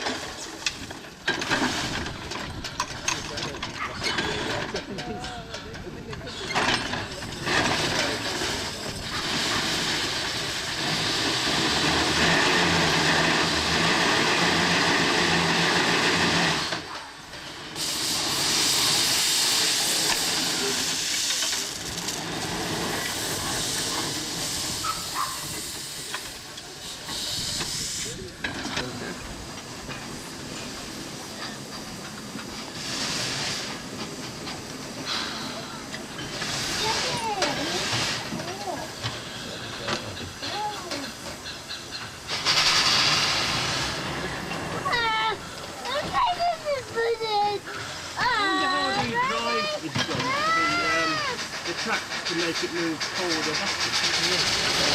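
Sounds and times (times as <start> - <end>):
steam engine hissing and beating: 0.0 - 54.9.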